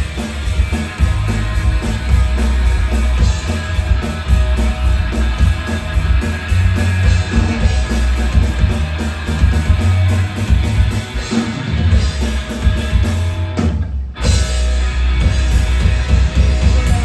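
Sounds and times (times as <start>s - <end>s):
rock band instrumental: 0.0s - 17.0s.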